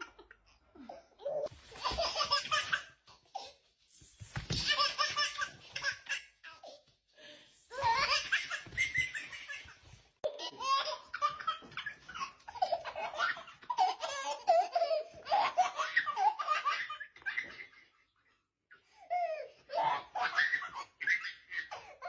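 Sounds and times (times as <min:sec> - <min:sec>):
baby laughing: 0:00.0 - 0:03.6, 0:04.4 - 0:06.9, 0:07.7 - 0:17.9, 0:19.1 - 0:22.0.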